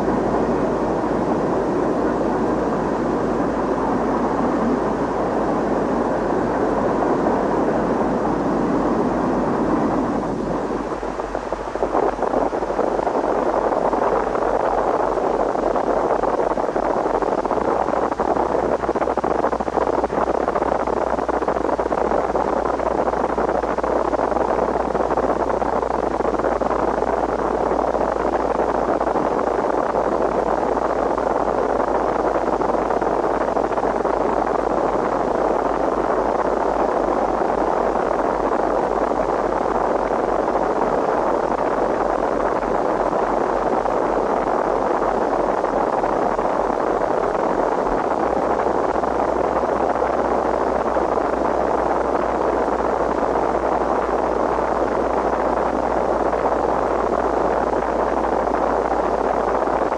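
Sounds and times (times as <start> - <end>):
low hum: 0.0 - 59.9
static hiss: 0.0 - 59.9.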